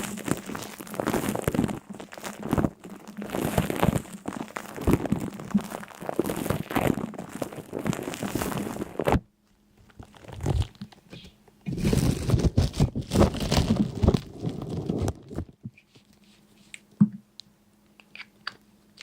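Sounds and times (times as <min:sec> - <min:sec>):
dry crunching and crinkling: 0:00.0 - 0:09.2, 0:09.8 - 0:16.8.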